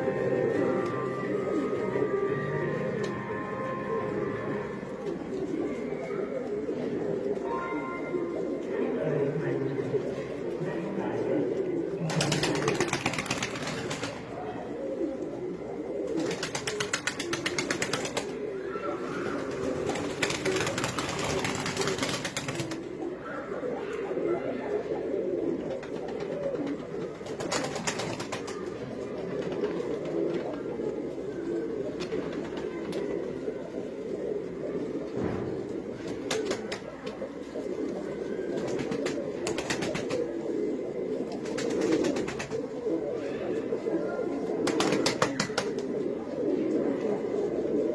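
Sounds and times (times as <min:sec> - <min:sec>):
pigeons cooing: 0:00.0 - 0:47.9.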